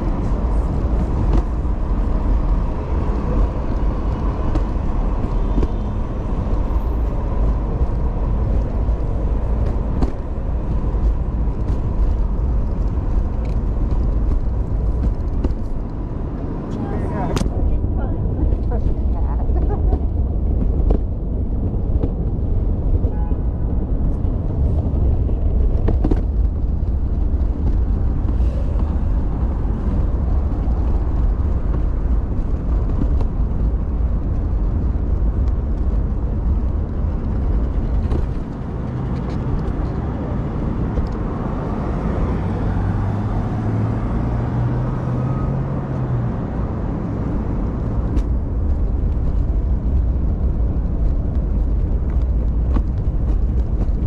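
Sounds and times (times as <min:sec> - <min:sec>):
street traffic: 0:00.0 - 0:54.0
stroller wheels rumbling on pavement: 0:00.0 - 0:54.0.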